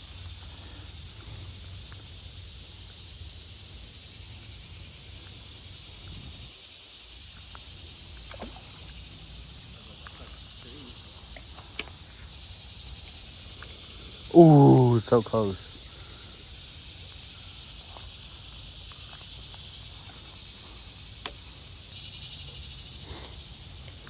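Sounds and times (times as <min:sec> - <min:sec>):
crickets humming: 0:00.0 - 0:24.0.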